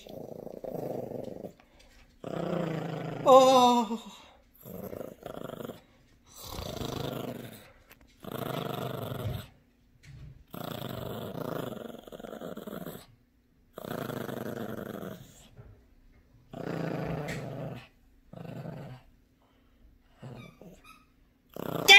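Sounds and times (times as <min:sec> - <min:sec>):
small dog growling: 0:00.0 - 0:09.6, 0:10.4 - 0:15.6, 0:16.5 - 0:19.2, 0:20.1 - 0:20.9, 0:21.5 - 0:21.9.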